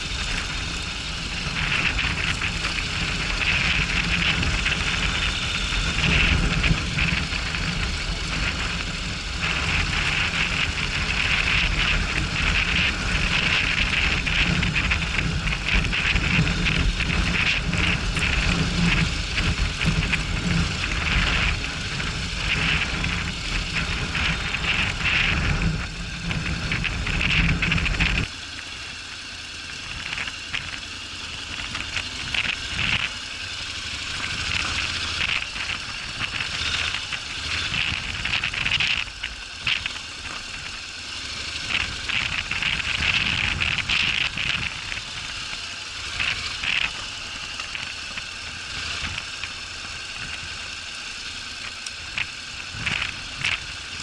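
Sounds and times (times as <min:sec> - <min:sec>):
wind noise on camera: 0:00.0 - 0:28.4, 0:29.6 - 0:54.0
hissing crackling rattle: 0:00.0 - 0:54.0
motorcycle engine rumble: 0:00.0 - 0:54.0.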